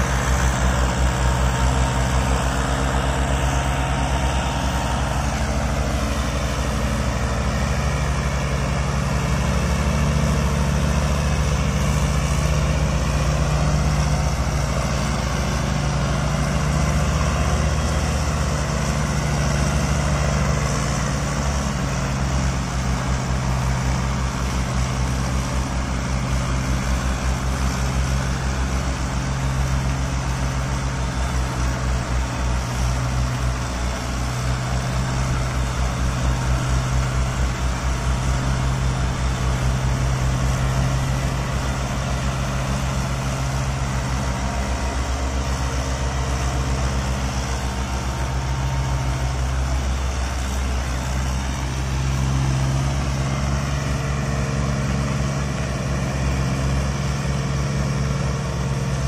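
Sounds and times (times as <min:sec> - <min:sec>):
tractor engines chugging under load: 0:00.0 - 0:59.0.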